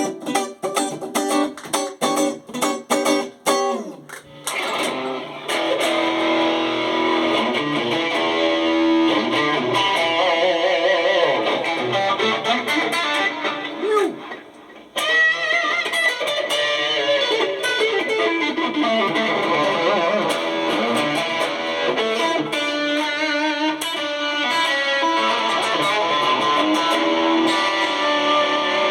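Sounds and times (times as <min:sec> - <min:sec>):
electric guitar lead lines: 0:00.0 - 0:28.9.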